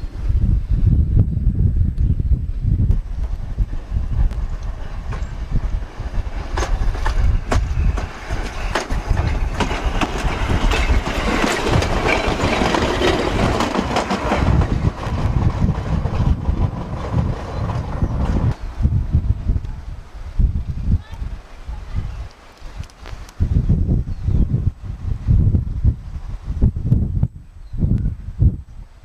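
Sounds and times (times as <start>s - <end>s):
train rumble on rails: 0.0s - 29.0s
rushing noise: 2.4s - 27.3s.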